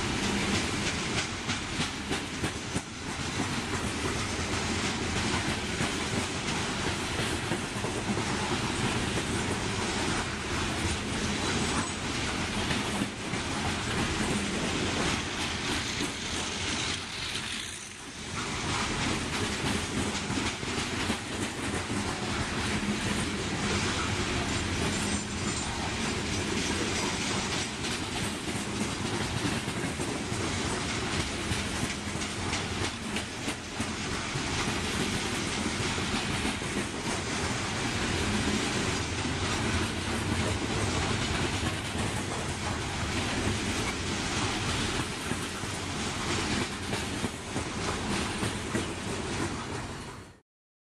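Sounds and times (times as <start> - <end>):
steel wheels clicking over rail joints: 0.0 - 49.8
freight train rolling past: 0.0 - 50.4.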